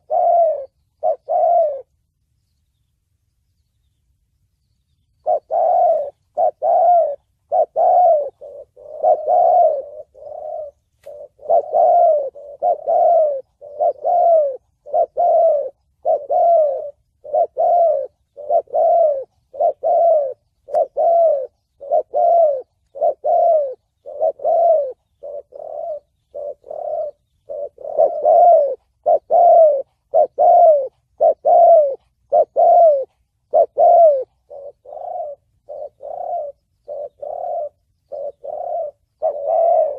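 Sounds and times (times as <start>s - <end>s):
dove cooing: 0.0s - 2.1s, 5.2s - 39.9s.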